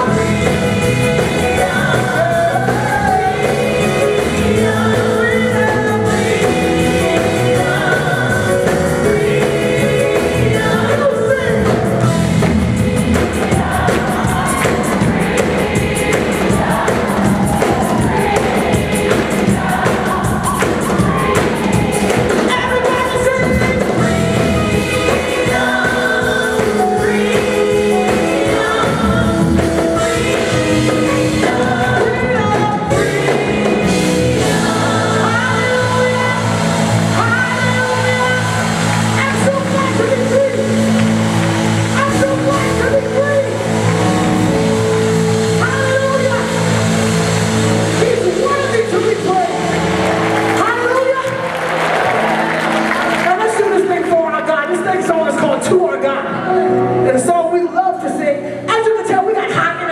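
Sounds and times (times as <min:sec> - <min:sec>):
drums: 0:00.0 - 0:54.1
voices singing gospel: 0:00.0 - 0:59.8
keyboards: 0:00.0 - 0:59.9.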